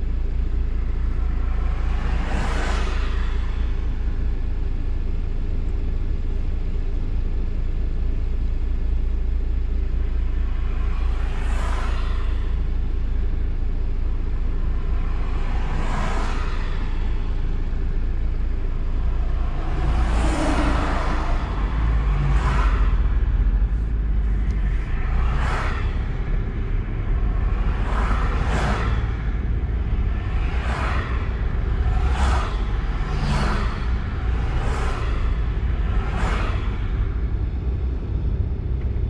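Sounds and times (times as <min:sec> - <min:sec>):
cars passing by: 0:00.0 - 0:07.2, 0:09.0 - 0:39.0
low traffic rumble: 0:00.0 - 0:39.0.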